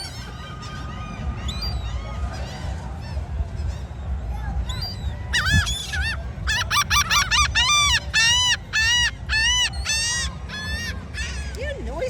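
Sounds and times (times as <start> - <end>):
seagulls calling: 0.0 - 12.0
steady low rumble: 0.0 - 12.0.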